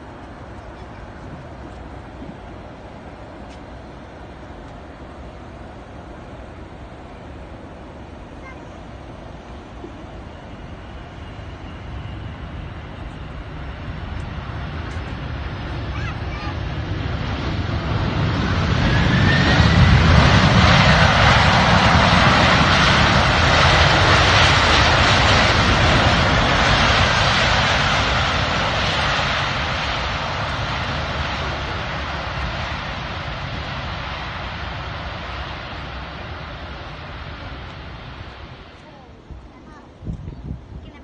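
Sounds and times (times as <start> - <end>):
jet engines roaring: 0.0 - 41.0.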